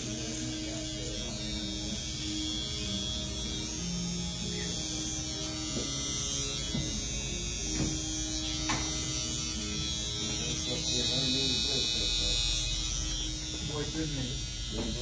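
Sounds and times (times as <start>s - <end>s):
hair clippers buzzing: 0.0s - 15.0s.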